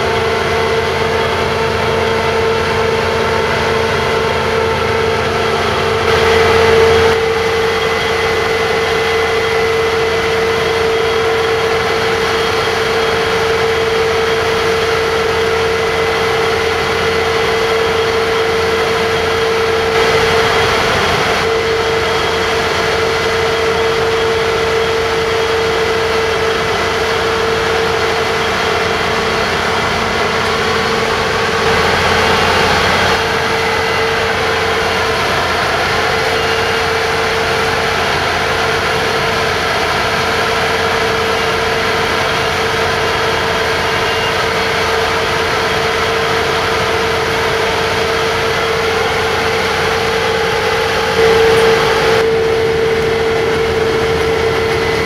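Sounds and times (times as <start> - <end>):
combine harvester machinery drone: 0.0 - 55.0.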